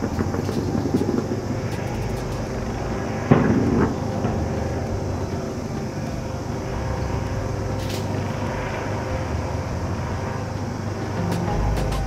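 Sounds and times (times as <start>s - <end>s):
distant city rumble: 0.0s - 12.0s.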